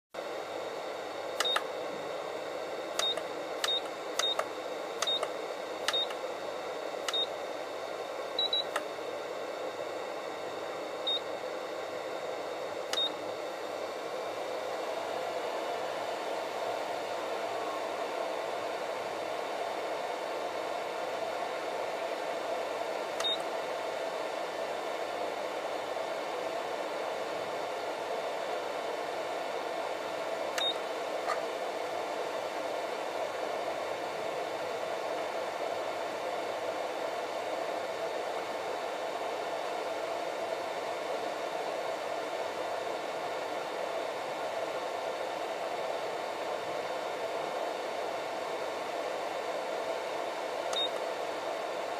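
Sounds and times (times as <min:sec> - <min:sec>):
fan-like hiss: 0:00.2 - 0:51.9.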